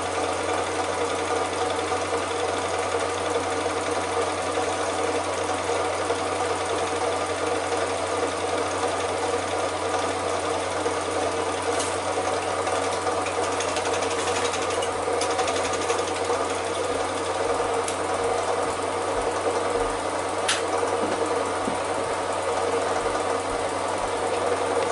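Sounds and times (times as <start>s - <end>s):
film projector whirring: 0.0s - 24.9s.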